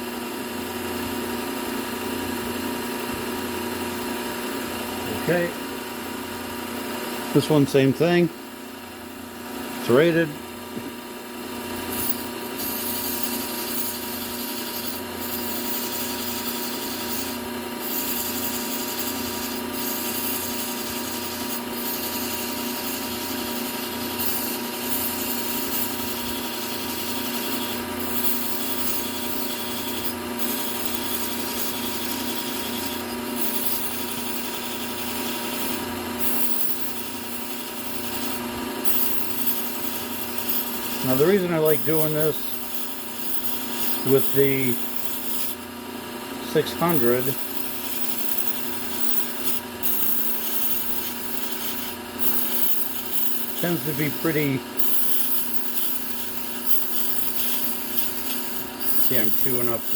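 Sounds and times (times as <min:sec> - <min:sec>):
belt sander motor hum: 0:00.9 - 0:59.9
knife grinding on sanding belt: 0:11.7 - 0:59.9.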